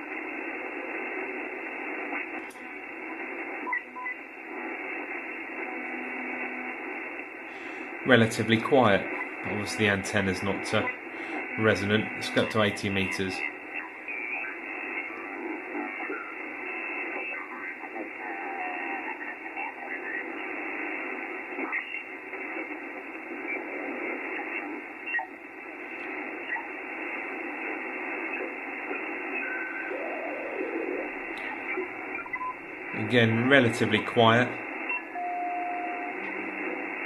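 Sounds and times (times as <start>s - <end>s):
faint garbled radio voices: 0.0s - 37.0s
radio static hiss: 0.0s - 37.0s.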